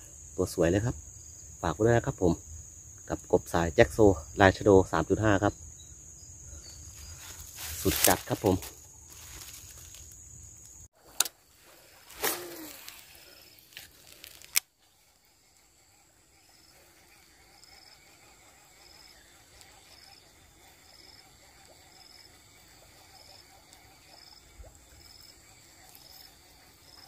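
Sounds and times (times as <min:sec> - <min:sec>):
insect chirping in high pips: 0:00.0 - 0:27.0.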